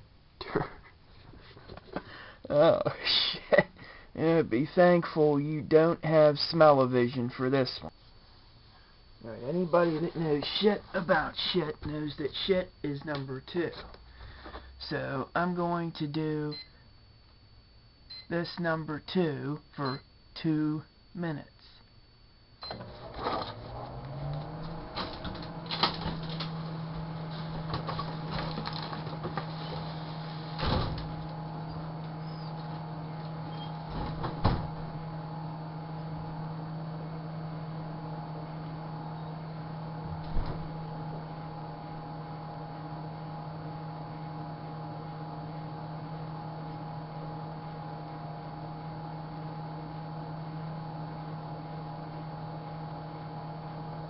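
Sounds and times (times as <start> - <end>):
microwave oven humming: 0.0 - 54.0.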